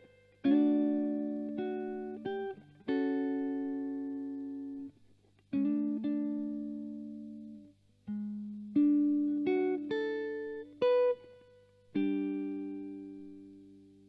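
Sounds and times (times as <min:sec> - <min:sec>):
electric guitar chords ringing: 0:00.0 - 0:14.0
faint steady hum: 0:00.0 - 0:14.0.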